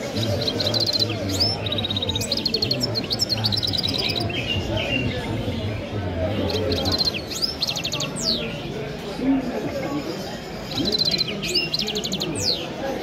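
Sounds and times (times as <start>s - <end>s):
songbird singing trills and whistles: 0.0s - 8.6s, 10.6s - 12.8s.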